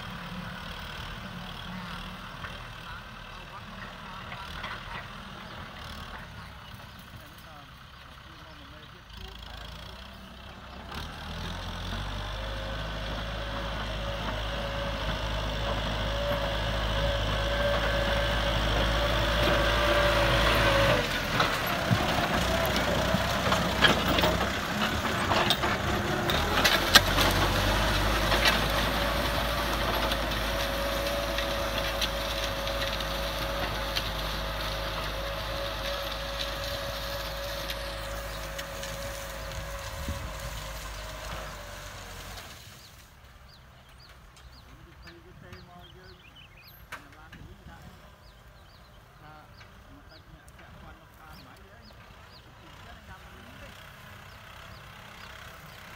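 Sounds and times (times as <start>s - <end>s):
plow discs cutting soil: 0.0s - 55.9s
tractor diesel engine running: 0.0s - 55.9s.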